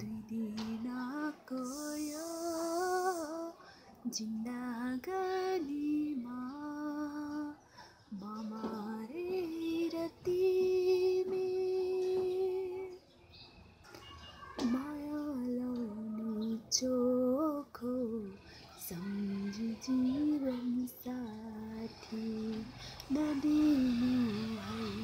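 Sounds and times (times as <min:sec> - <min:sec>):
woman singing unaccompanied: 0:00.0 - 0:13.1, 0:14.6 - 0:25.0.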